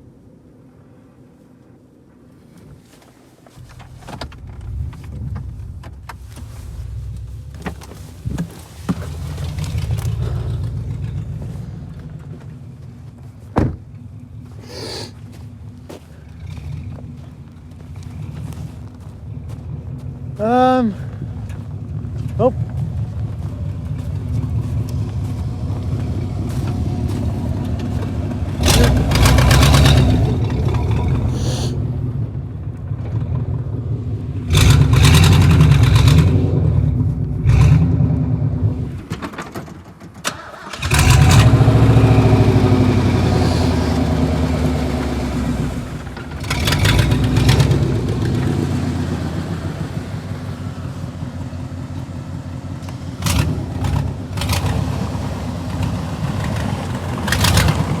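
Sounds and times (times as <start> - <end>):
car engine revving: 3.6 - 39.3, 40.3 - 58.0.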